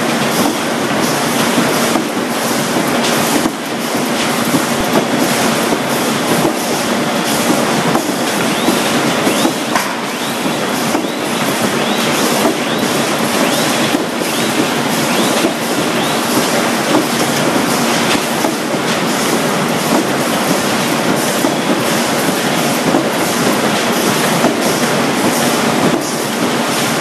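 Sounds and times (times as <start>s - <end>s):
factory machinery clattering: 0.0s - 27.0s.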